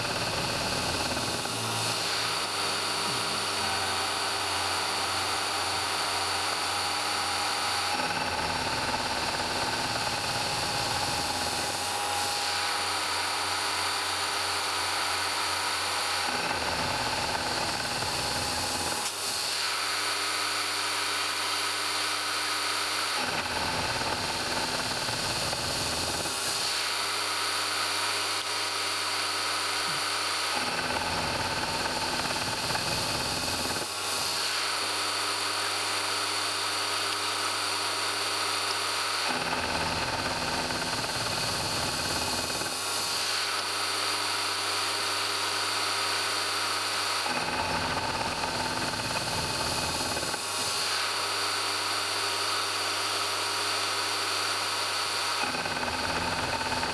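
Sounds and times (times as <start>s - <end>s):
gear cutter cutting metal: 0.0s - 56.9s
milling machine spindle whine: 0.0s - 56.9s.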